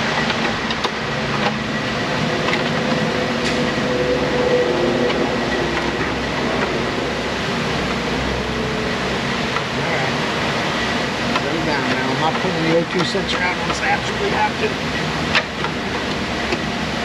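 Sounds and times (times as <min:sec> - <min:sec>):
loud rushing noise: 0:00.0 - 0:17.0.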